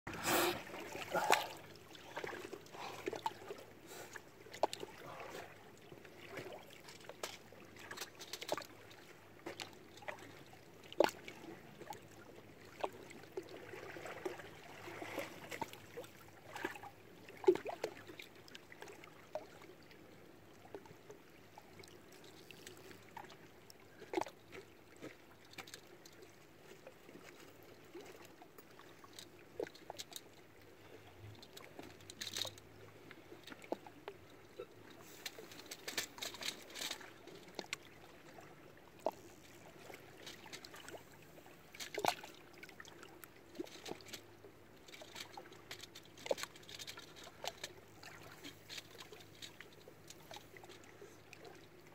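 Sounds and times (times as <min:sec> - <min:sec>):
waves lapping against rocks: 0:00.1 - 0:19.7, 0:24.0 - 0:51.9.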